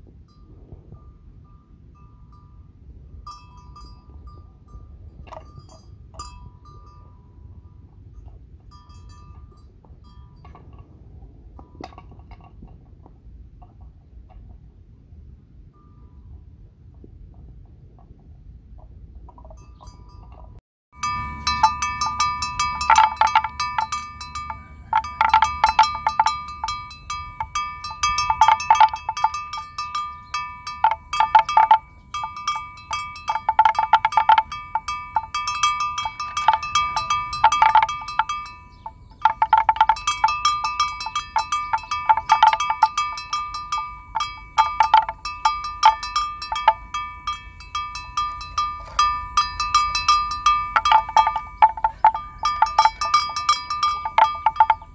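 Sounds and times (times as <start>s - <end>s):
animal bells clanking: 0.3s - 14.6s, 15.6s - 16.6s, 18.8s - 54.9s.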